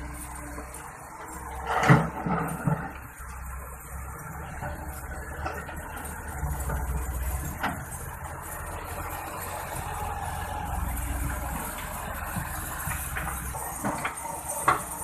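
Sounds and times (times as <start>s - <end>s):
diesel engines running: 0.0s - 15.0s
tractor pulling trolley past: 0.0s - 15.0s.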